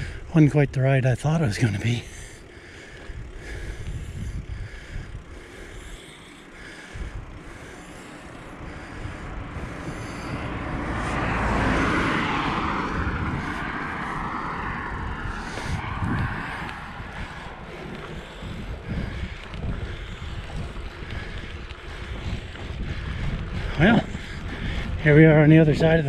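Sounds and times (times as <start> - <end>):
car passing: 0.0 - 26.0
wind rumble on microphone: 0.0 - 26.0.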